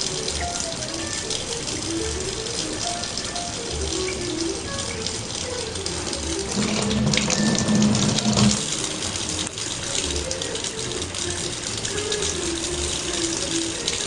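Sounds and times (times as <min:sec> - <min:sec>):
background music: 0:00.0 - 0:14.0
tap running into sink: 0:00.0 - 0:14.0.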